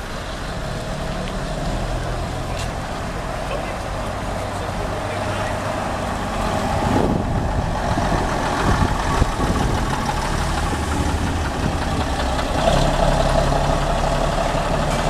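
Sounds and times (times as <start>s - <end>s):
bus diesel engine passing: 0.0s - 15.0s.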